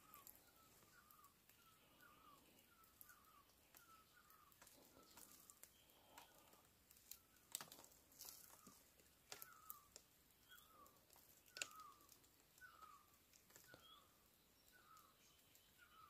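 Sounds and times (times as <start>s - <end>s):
faint clicks: 0.0s - 14.0s
faint falling bird call: 0.0s - 16.0s.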